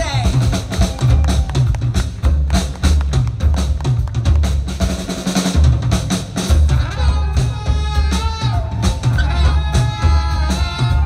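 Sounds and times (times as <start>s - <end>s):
bass drum beat: 0.0s - 11.0s
swing band playing: 0.0s - 11.0s.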